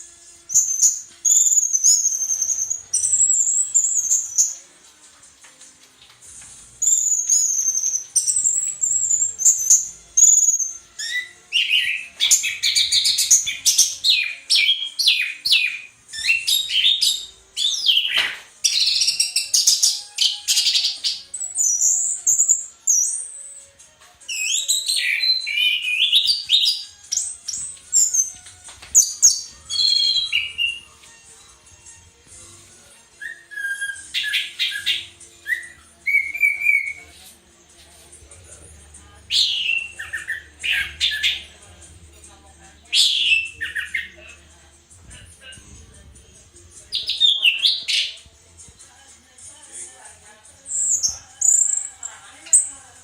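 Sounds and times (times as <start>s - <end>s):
thrush singing: 0.0s - 53.0s.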